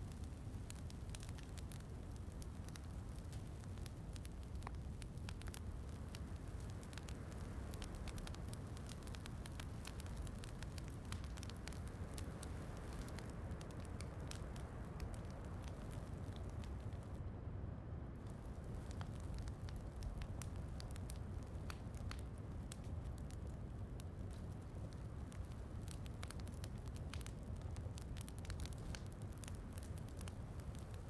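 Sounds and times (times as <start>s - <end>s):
wood fire crackling: 0.0s - 17.2s, 18.2s - 31.0s.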